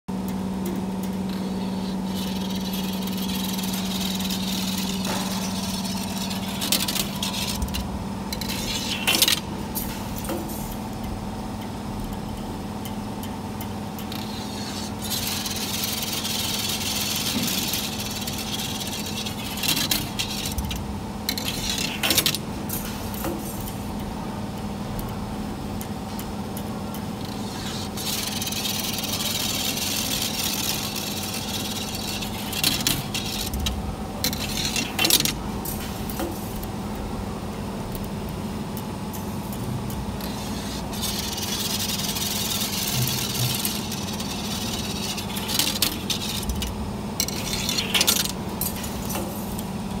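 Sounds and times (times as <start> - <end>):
wire bending machine humming: 0.1 - 50.0.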